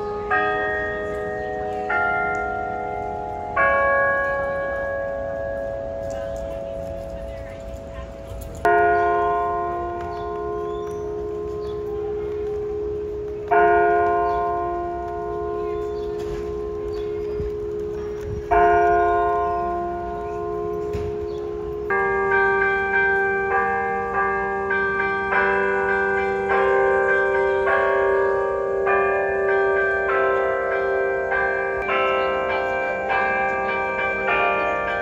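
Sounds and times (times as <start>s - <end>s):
large bronze bell ringing: 0.0s - 35.0s.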